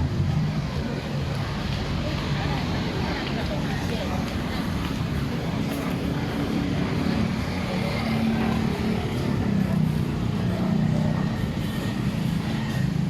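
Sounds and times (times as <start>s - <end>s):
street noise: 0.0s - 13.0s
vehicle engine humming: 0.0s - 13.0s.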